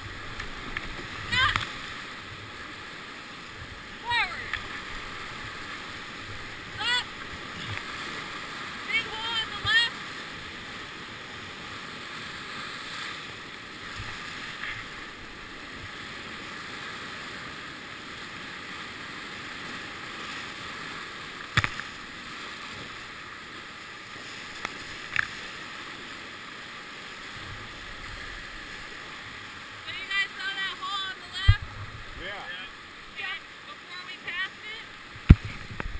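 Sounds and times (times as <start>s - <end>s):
whitewater rapids rushing: 0.0s - 35.9s.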